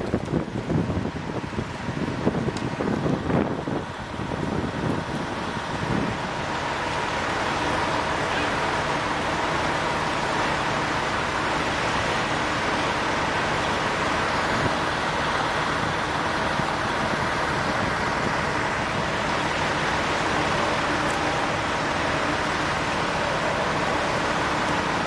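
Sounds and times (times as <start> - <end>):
engine and pump drone: 0.0 - 25.0.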